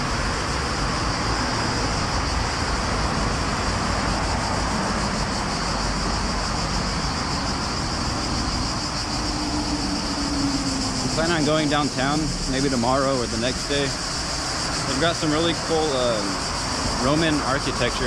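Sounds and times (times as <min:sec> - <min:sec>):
continuous high buzz: 0:00.0 - 0:18.0
street traffic: 0:00.0 - 0:18.0.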